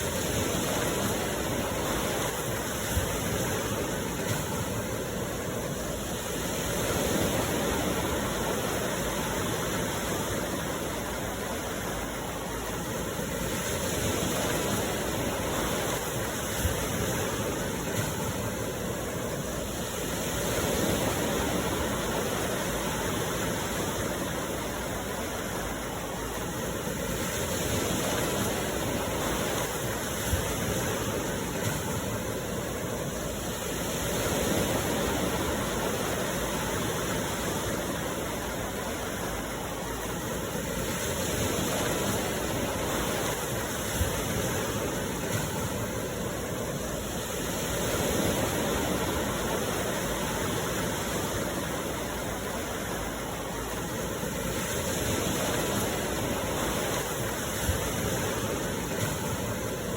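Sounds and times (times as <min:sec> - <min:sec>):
sea surf washing ashore: 0:00.0 - 0:59.9.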